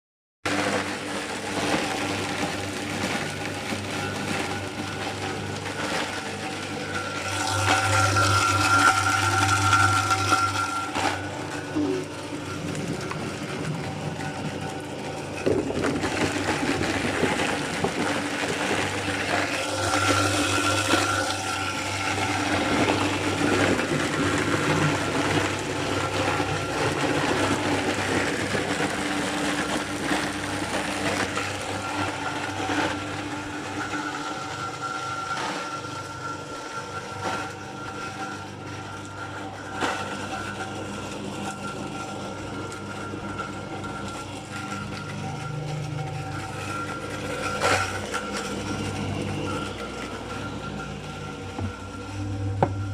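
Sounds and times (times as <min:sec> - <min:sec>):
apple mill grinding: 0:00.5 - 0:52.9.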